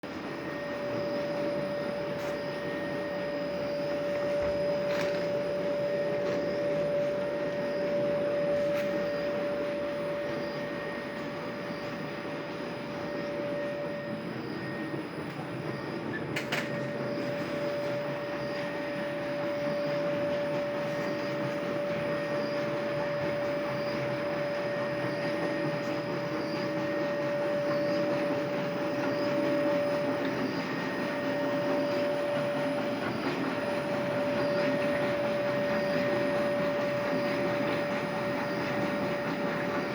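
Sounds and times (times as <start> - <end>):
washing machine whirring: 0.0 - 39.9.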